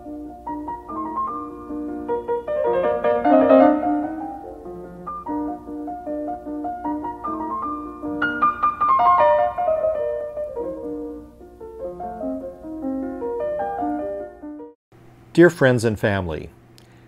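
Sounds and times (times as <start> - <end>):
gentle piano music: 0.0 - 14.8.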